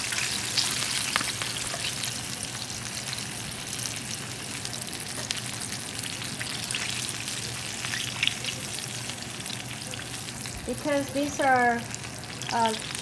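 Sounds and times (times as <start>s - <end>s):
chicken frying in bubbling oil: 0.0s - 13.0s.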